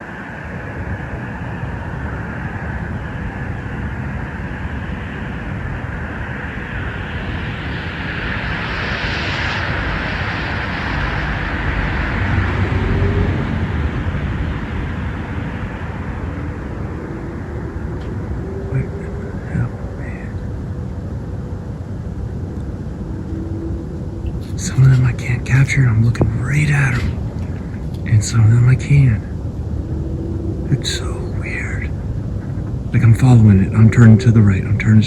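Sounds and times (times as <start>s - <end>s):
distant aircraft engine rumble: 0.0s - 35.0s.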